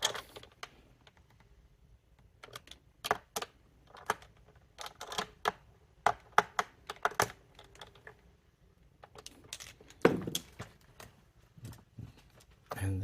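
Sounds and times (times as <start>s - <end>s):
plastic parts clicking: 0.0s - 11.2s.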